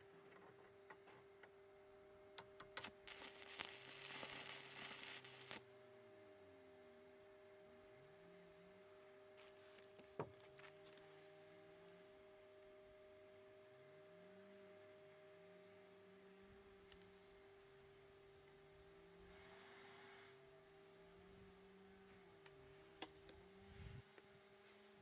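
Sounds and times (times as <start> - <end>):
faint two-tone hum: 0.0 - 25.0
soft hiss: 2.4 - 5.8, 7.6 - 25.0.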